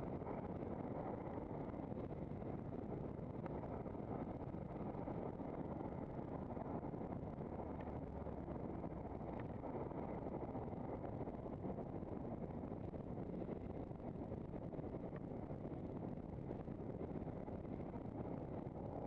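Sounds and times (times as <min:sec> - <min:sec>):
wind noise: 0:00.0 - 0:19.0.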